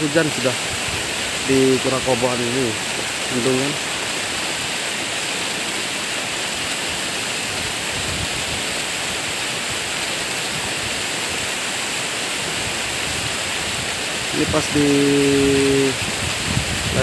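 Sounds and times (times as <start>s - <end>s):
muddy water rushing: 0.0s - 17.0s.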